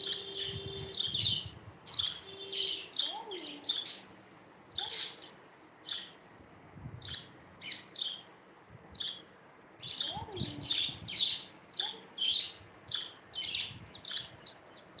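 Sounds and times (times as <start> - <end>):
budgerigar chirping: 0.0 - 4.1, 4.7 - 6.2, 7.0 - 8.3, 9.0 - 14.6.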